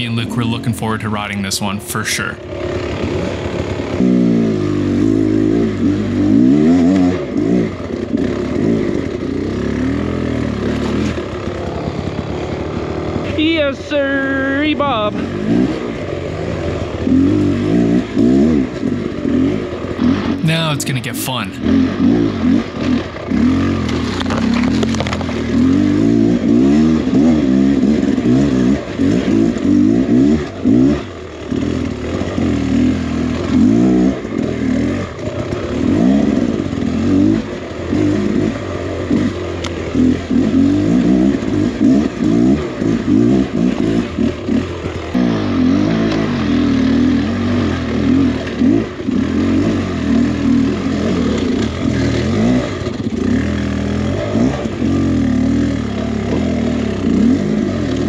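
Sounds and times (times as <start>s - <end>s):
dirt bike engine revving: 2.4s - 58.0s.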